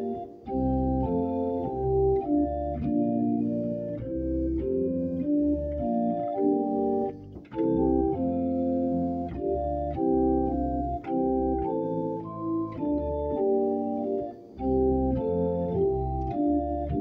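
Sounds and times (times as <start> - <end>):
organ playing a hymn: 0.0 - 17.0.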